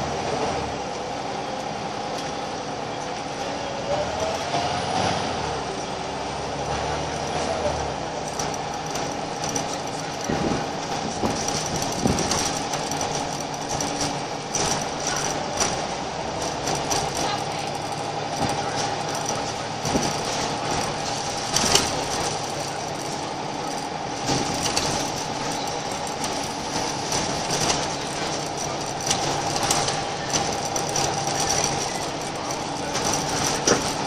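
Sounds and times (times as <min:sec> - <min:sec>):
bus body rattles and knocks: 0:00.0 - 0:34.0
bus diesel engine: 0:00.0 - 0:34.0
road noise: 0:00.0 - 0:34.0.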